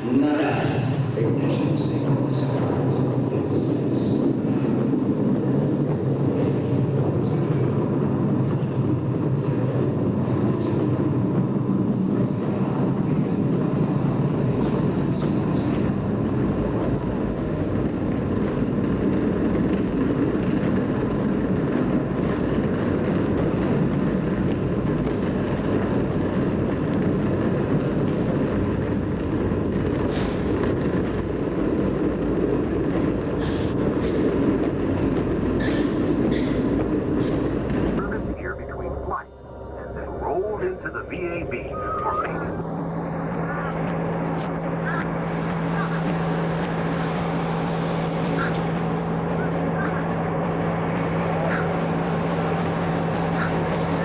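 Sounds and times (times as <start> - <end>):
rocket launch roar over loudspeakers: 0.0 - 54.0.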